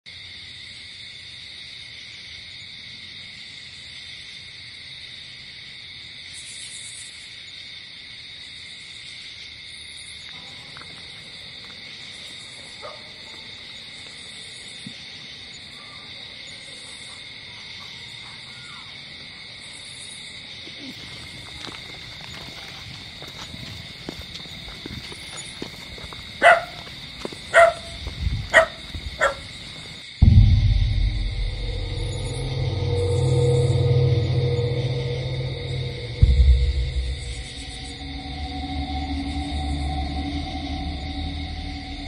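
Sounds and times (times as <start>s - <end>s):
insects chirring: 0.1s - 42.0s.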